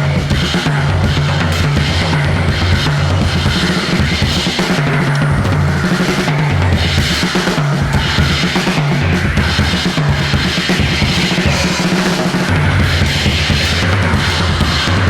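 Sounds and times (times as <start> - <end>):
bass line: 0.0 - 10.2, 10.8 - 15.0
drum kit: 0.0 - 15.0
instrumental rock music: 0.0 - 15.0.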